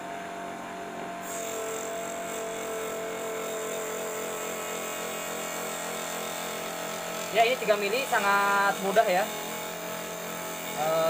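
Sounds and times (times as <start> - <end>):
table saw motor whine: 0.0 - 11.0
saw blade cutting acrylic: 1.2 - 11.0.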